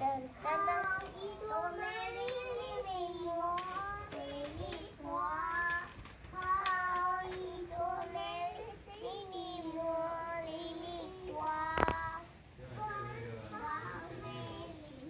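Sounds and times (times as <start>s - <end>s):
girl singing held notes: 0.0s - 15.0s.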